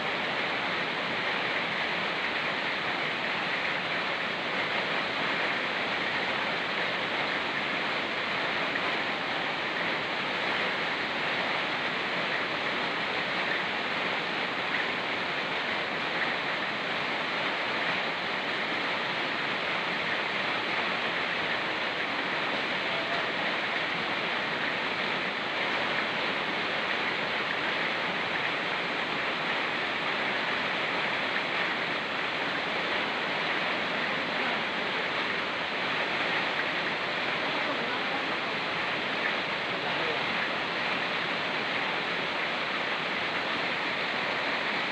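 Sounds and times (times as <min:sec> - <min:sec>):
fast-flowing stream: 0:00.0 - 0:44.9
rain falling: 0:00.0 - 0:44.9.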